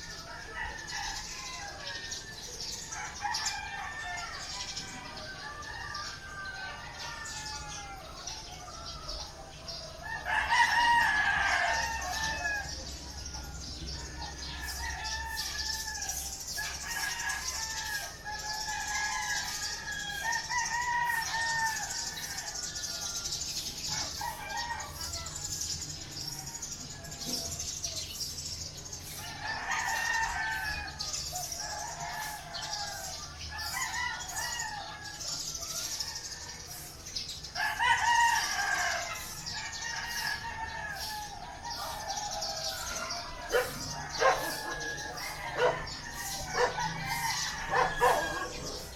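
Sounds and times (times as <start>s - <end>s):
roosters crowing: 0.0s - 48.9s.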